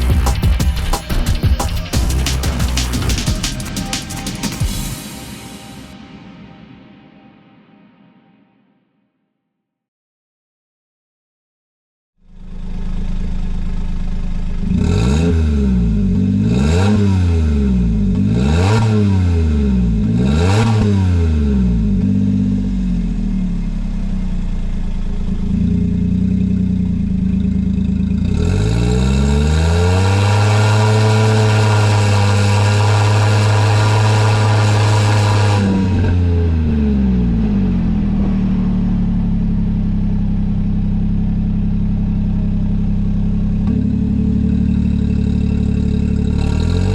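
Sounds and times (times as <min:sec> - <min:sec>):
small truck engine idling and revving: 0:00.0 - 0:04.7, 0:12.2 - 0:46.9.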